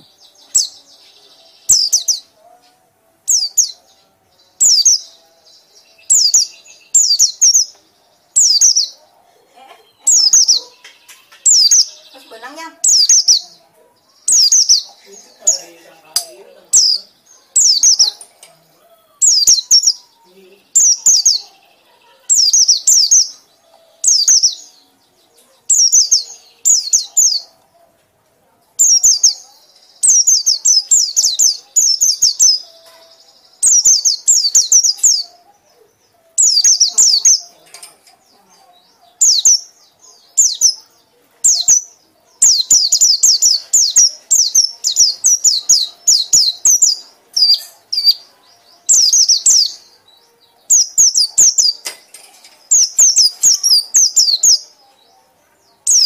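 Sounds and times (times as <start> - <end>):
bird chattering song: 0.0 - 28.0, 28.7 - 56.0.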